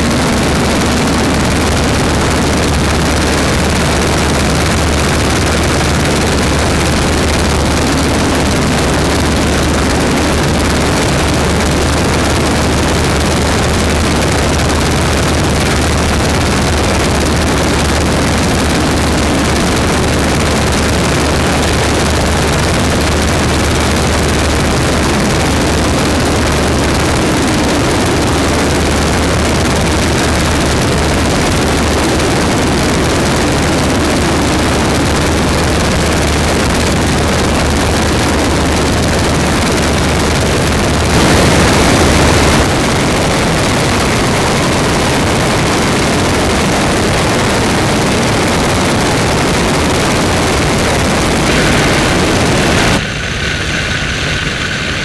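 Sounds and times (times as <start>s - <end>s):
biplane engine and propeller: 0.0s - 55.0s
wind rush over microphone: 0.0s - 55.0s.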